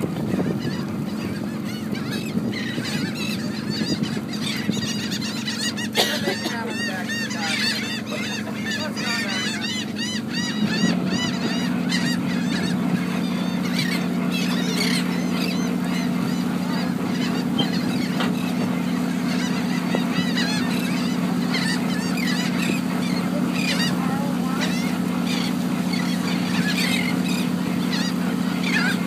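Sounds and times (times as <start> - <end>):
boat engine running: 0.0 - 29.0
gulls calling: 0.0 - 29.0.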